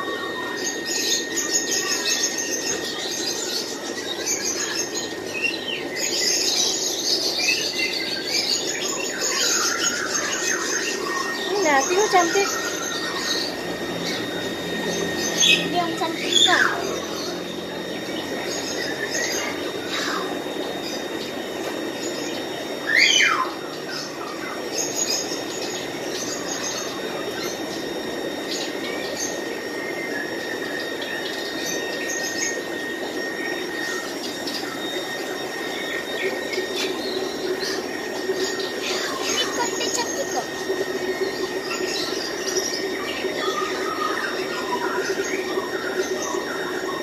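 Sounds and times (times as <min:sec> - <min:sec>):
small birds chirping: 0:00.0 - 0:47.0
steady hum: 0:00.0 - 0:47.0
thin constant whine: 0:00.0 - 0:47.0.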